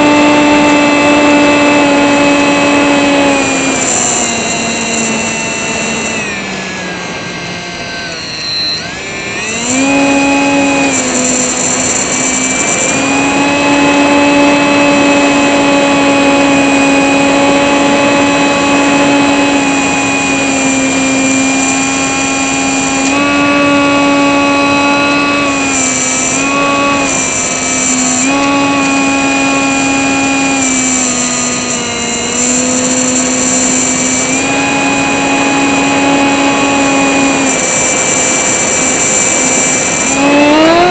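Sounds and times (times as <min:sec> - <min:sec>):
small motor whining: 0:00.0 - 0:40.9.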